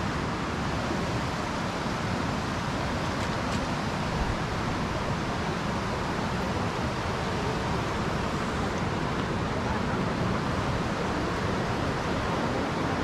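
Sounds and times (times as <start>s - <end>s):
waterfall roar: 0.0s - 13.0s.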